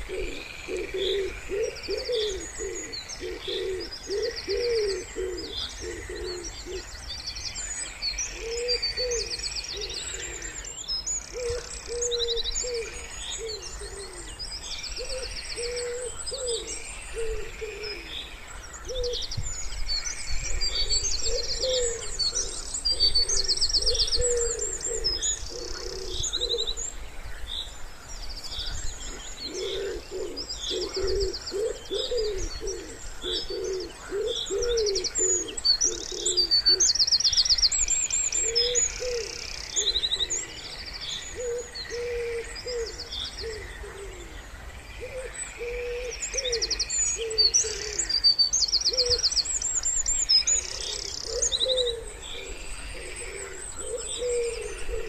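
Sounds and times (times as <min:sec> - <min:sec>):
wood pigeons cooing: 0:00.0 - 0:06.9, 0:08.3 - 0:18.2, 0:18.8 - 0:19.4, 0:20.4 - 0:26.9, 0:28.8 - 0:37.0, 0:38.4 - 0:40.7, 0:41.3 - 0:44.4, 0:45.0 - 0:48.2, 0:48.9 - 0:49.3, 0:50.5 - 0:55.0
songbirds chirping and trilling: 0:00.0 - 0:55.0.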